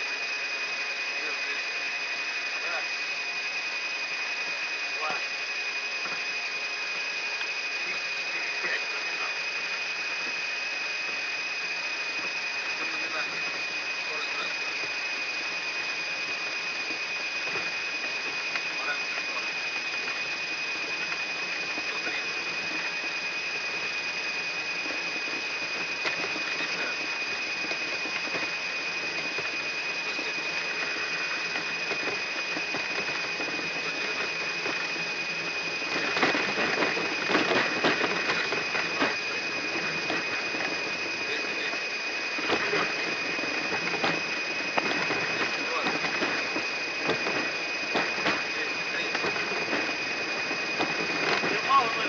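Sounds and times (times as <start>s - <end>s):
aircraft engines and airflow: 0.0s - 52.0s.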